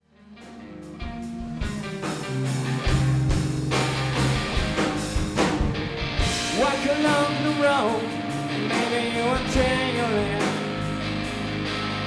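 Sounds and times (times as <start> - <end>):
rock band playing live: 0.2 - 12.0.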